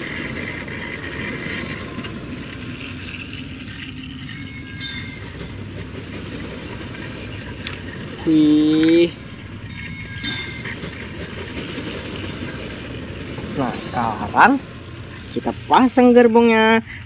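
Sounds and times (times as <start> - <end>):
toy trains whirring rattle: 0.0 - 17.0.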